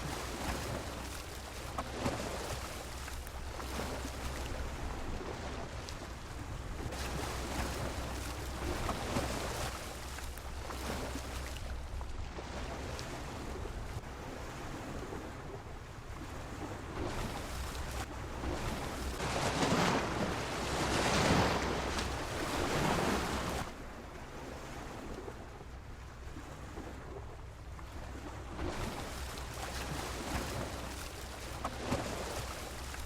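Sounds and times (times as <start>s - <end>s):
sea waves washing against pier: 0.0s - 33.0s.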